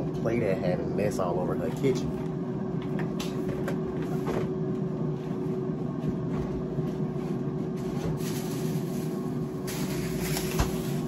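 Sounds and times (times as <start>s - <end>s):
air fryer fan hum: 0.0s - 11.0s.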